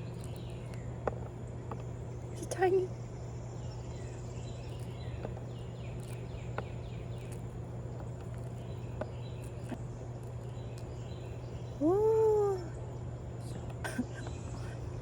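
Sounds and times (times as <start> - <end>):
faint chirping calls: 0.0 - 15.0
steady low hum: 0.0 - 15.0.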